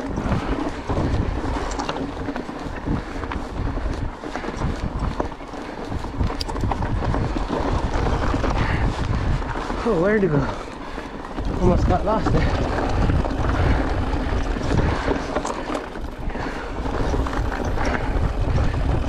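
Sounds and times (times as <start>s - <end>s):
bike rattling: 0.0s - 19.0s
tyres crunching over stones: 0.0s - 19.0s
wind rumble on microphone: 0.0s - 19.0s.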